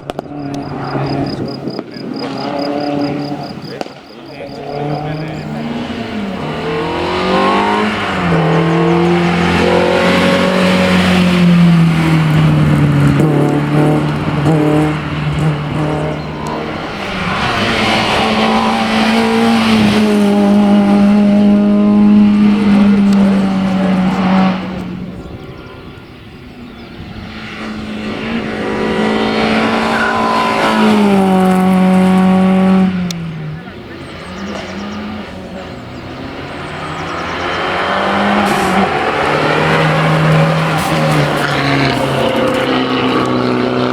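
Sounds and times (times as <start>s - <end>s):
rally car engine at high revs: 0.0s - 43.9s.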